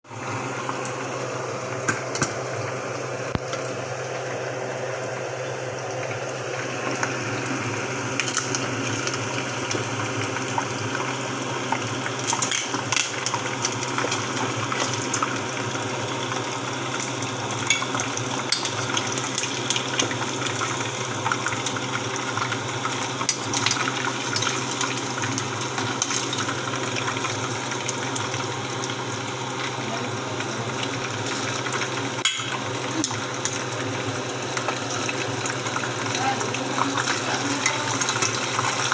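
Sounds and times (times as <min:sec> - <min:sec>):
meat sizzling in a pan: 0:06.3 - 0:38.9.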